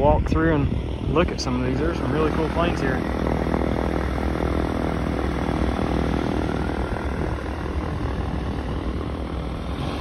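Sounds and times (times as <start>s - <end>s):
engine drone: 0.0s - 10.0s
low rumble: 0.0s - 10.0s.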